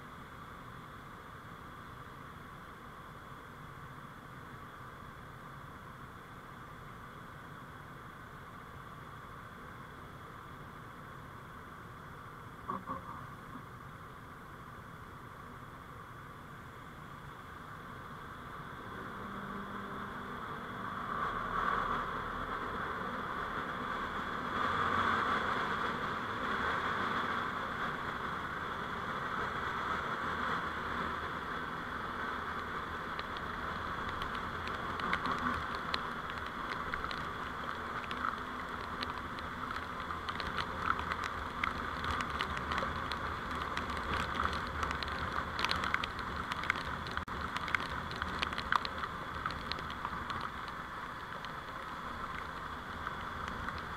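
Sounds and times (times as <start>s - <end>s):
engine and road hum: 0.0s - 53.9s.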